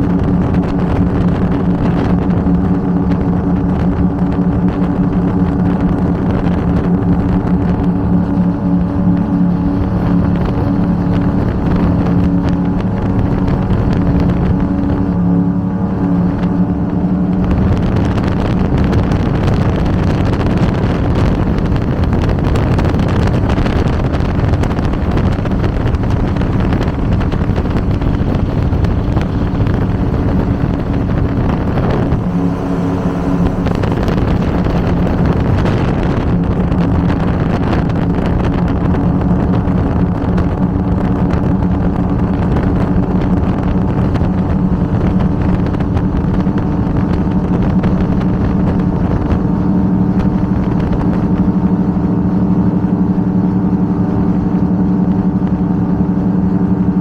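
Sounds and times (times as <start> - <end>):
powerboat engine drone: 0.0 - 57.0
water rushing: 0.0 - 57.0
wind: 0.0 - 57.0.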